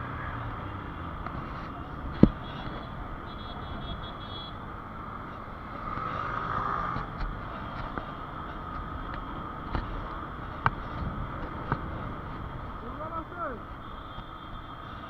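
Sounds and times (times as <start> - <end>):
motor vehicle noise: 0.0 - 15.0.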